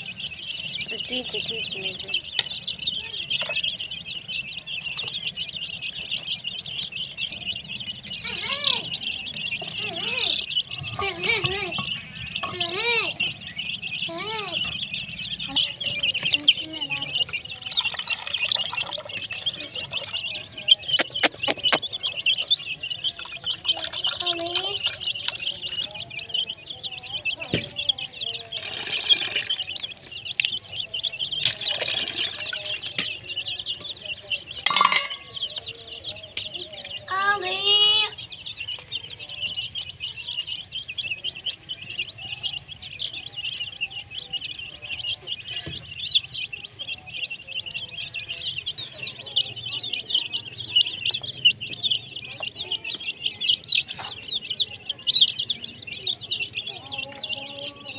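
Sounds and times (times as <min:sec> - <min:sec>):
baby chicks peeping: 0:00.0 - 0:57.9
hen clucking: 0:00.0 - 0:57.9.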